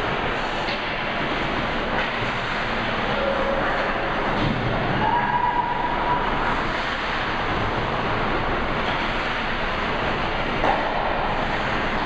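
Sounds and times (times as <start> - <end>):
hockey rink noise: 0.0 - 12.0.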